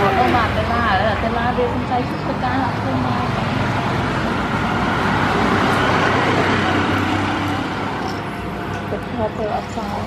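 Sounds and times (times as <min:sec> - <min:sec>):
motor vehicle passing: 0:00.0 - 0:10.0.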